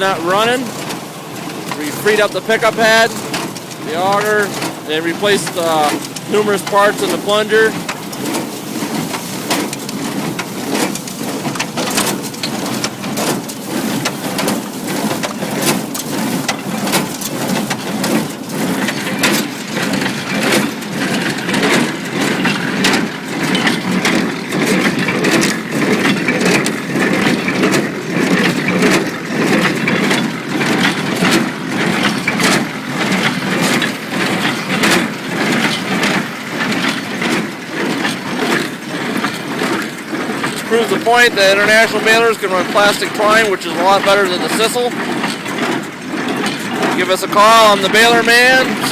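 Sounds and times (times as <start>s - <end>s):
baler clicks and knocks: 0.0s - 48.9s
hay baler running: 0.0s - 48.9s.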